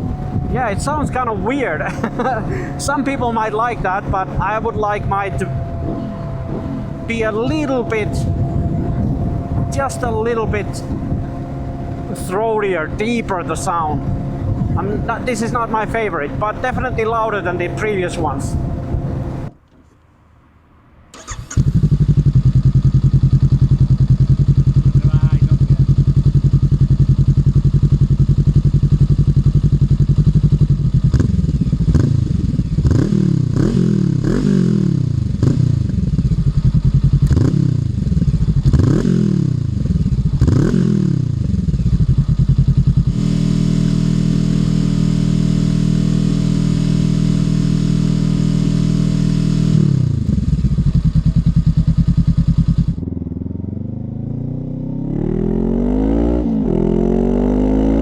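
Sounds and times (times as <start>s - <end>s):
motorcycle engine revving: 0.0s - 19.5s, 21.2s - 58.0s.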